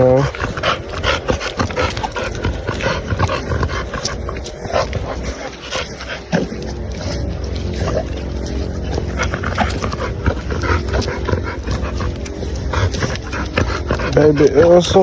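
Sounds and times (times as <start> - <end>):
dog making small sounds: 0.0 - 15.0
steady low rumble: 0.0 - 15.0.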